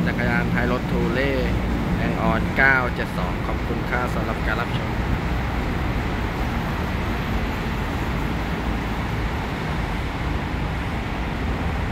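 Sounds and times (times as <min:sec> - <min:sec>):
city road traffic rumble: 0:00.0 - 0:11.9.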